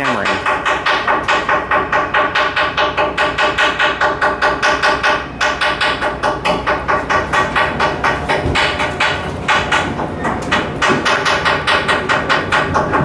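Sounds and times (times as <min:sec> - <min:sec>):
rapid ringing hammering: 0:00.0 - 0:13.0.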